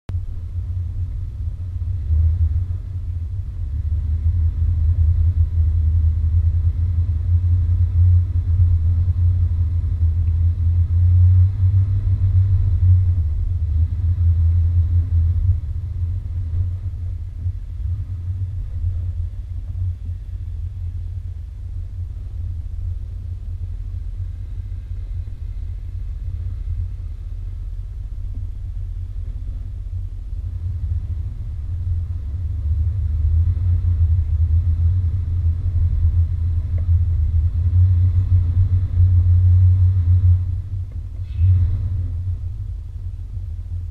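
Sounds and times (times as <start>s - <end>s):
off-road vehicle engine rumbling: 0.0s - 43.9s.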